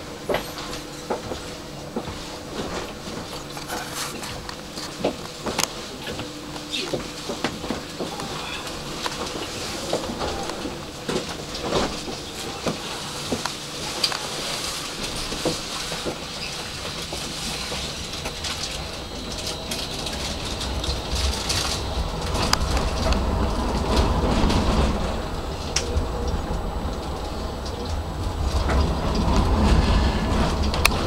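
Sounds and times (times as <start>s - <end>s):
tram running rumble: 0.0s - 31.0s.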